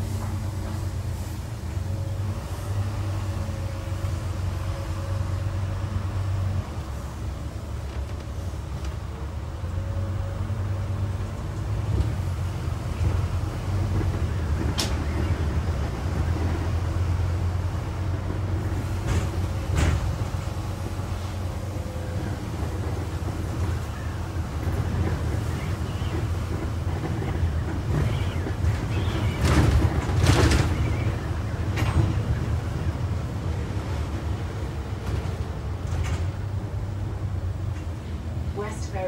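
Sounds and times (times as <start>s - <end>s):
bus engine drone: 0.0s - 39.0s
road noise: 0.0s - 39.0s.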